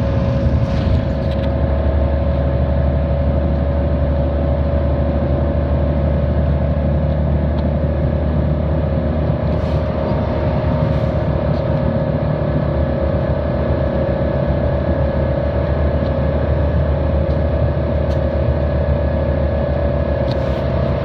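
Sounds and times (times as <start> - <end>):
bus engine droning with whine: 0.0 - 21.0.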